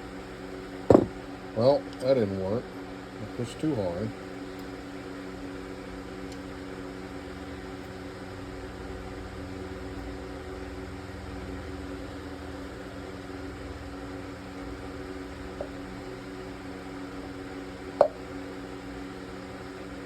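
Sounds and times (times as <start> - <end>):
machine humming: 3.1 - 20.0.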